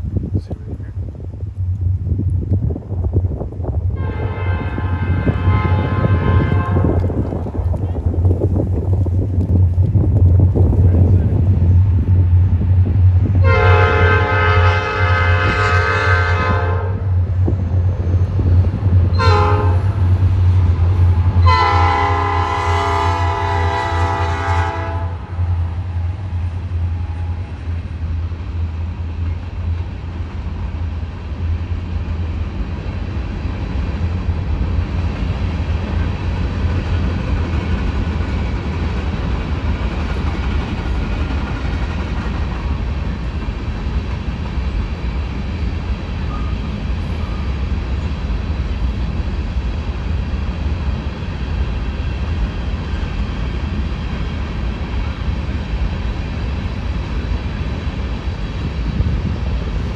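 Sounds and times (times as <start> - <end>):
diesel locomotive passing: 0.0 - 59.9
freight train rumbling past: 0.0 - 59.9
train wheels on rails: 0.0 - 59.9.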